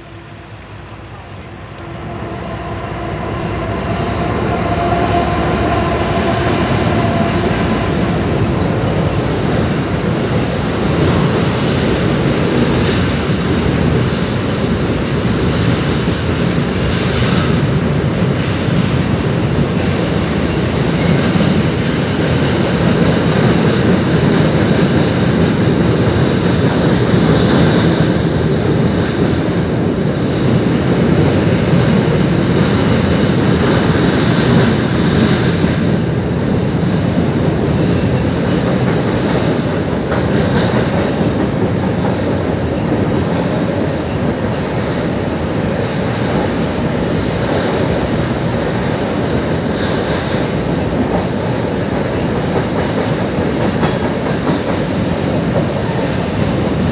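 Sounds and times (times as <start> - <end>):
diesel locomotive engine: 0.0 - 56.9
freight cars rumbling over bridge: 0.0 - 56.9.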